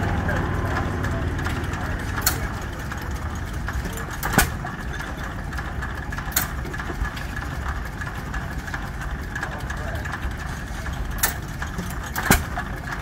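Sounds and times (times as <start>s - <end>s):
engine firing cracks: 0.0s - 13.0s
low engine rumble: 0.0s - 13.0s.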